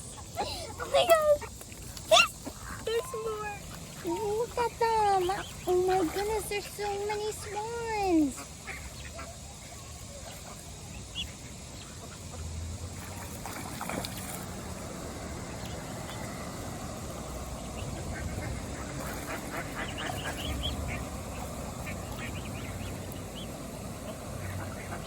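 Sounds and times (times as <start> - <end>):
ducks quacking: 0.0 - 13.6, 14.8 - 25.0.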